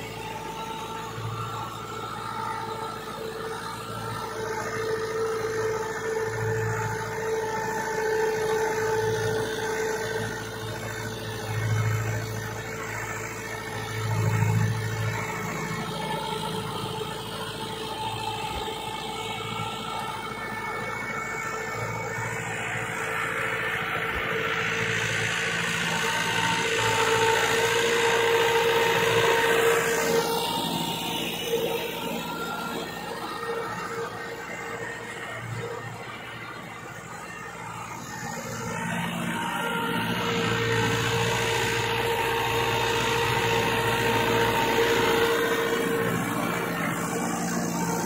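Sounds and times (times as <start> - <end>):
steady whine: 0.0 - 48.0
tractor engine running: 0.0 - 48.0.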